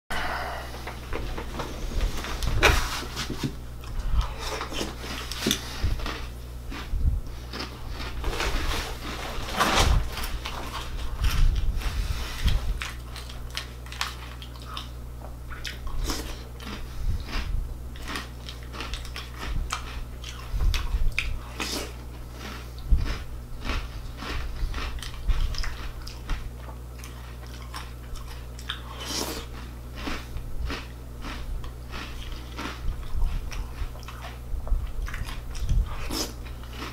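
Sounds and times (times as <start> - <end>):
low steady hum: 0.1 - 36.9
chewing crunchy cereal: 2.2 - 36.9.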